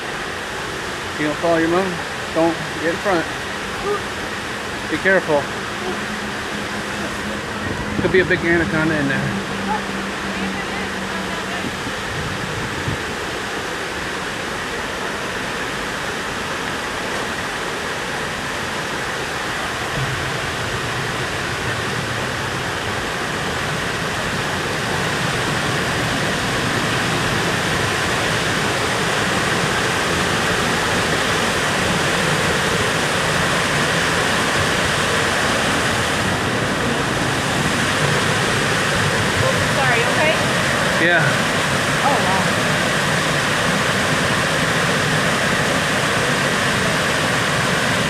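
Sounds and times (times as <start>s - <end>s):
waterfall and creek rushing: 0.0s - 48.0s.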